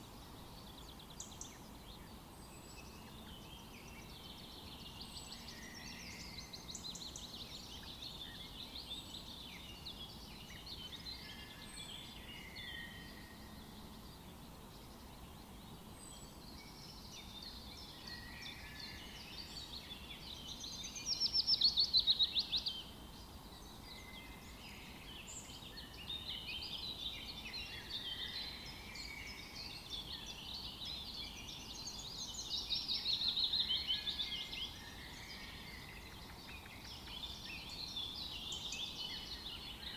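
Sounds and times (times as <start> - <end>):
songbirds singing in chorus: 0.0 - 39.9.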